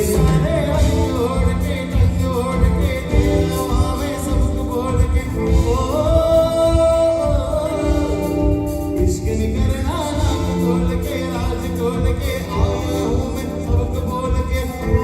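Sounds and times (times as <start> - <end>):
lead singer singing: 0.0 - 15.0
live band playing: 0.0 - 15.0.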